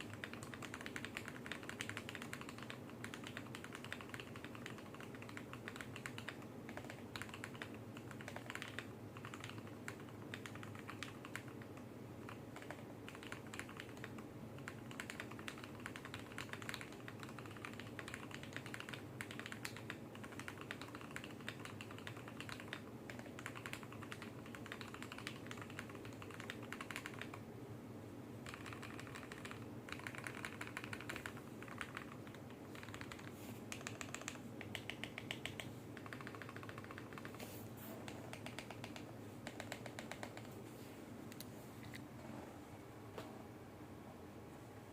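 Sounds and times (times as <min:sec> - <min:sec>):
mechanical keyboard typing: 0:00.0 - 0:27.4, 0:28.4 - 0:40.6.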